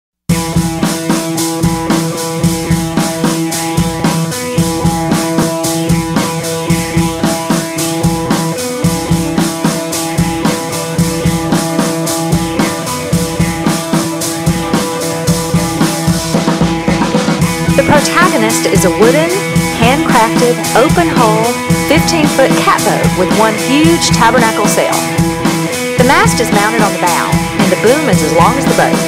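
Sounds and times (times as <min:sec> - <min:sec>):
steady drum beat: 0:00.3 - 0:29.0.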